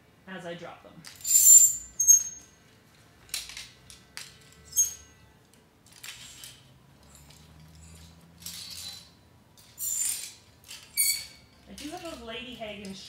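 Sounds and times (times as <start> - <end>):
clothes hangers clinking on a rack: 1.0 - 2.5, 3.2 - 13.0.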